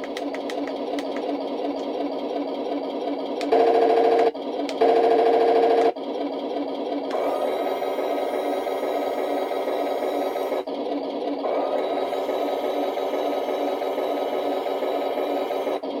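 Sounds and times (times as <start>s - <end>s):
toy tank engine sound effect: 0.2s - 16.0s.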